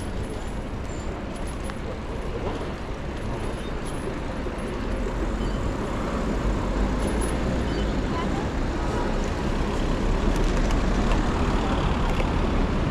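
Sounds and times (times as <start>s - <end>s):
rumble of passing cars: 0.0s - 12.9s.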